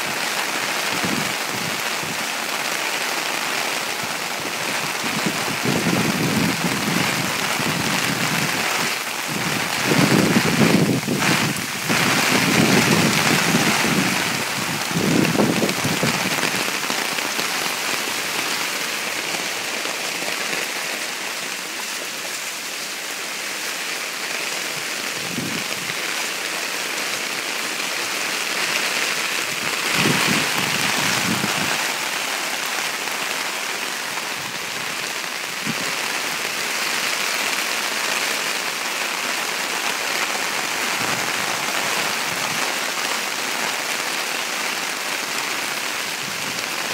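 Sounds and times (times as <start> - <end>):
heavy rain splashing: 0.0 - 46.9.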